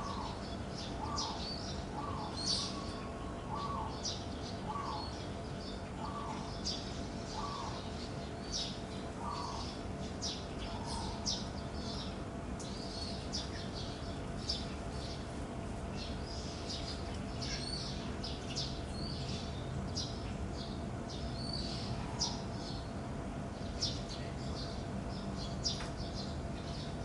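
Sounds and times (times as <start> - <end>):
low background hum: 0.0 - 27.0
small birds chirping: 0.0 - 27.0.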